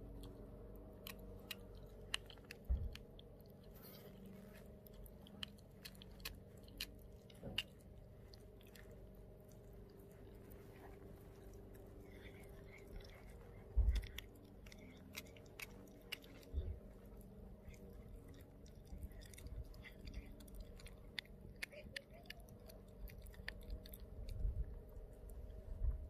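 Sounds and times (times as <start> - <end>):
dog chewing bones: 0.0 - 25.9.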